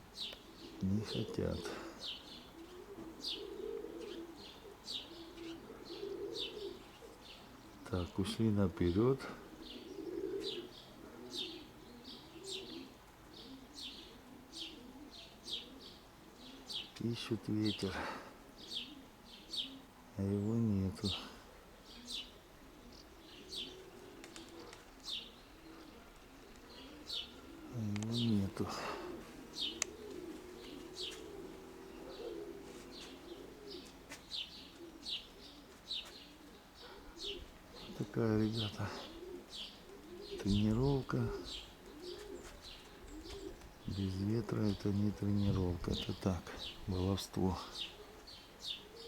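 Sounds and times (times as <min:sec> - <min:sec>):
pigeons cooing: 0:00.0 - 0:49.0
small birds chirping: 0:00.0 - 0:49.0.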